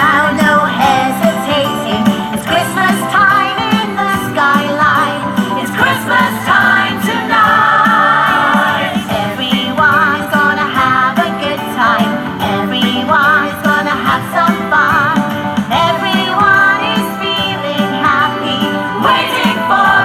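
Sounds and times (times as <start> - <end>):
christmas pop music: 0.0 - 20.0
person singing: 0.0 - 20.0.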